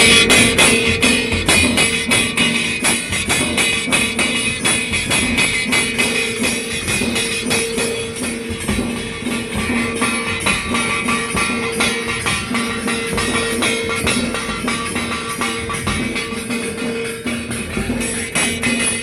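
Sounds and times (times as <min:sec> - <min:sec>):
bright jingling: 0:00.0 - 0:19.0
dhol drums playing fast beat: 0:00.0 - 0:19.0
steady held note: 0:00.0 - 0:19.0.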